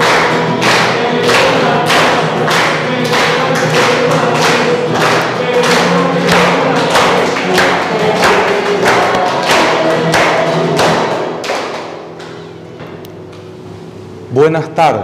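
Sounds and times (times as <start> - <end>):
congregation singing a hymn: 0.0 - 12.6
hand clapping on the beat: 0.0 - 12.6.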